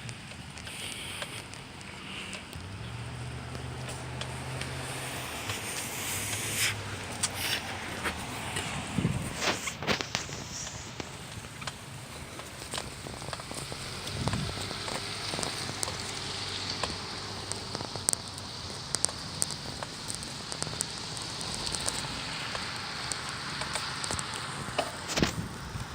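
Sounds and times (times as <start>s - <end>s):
raindrops ticking sharply: 0.0s - 25.9s
steady rain falling: 0.0s - 25.9s.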